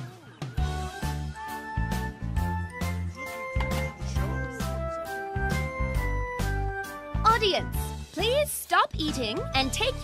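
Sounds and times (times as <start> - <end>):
light cartoon music: 0.0 - 10.0.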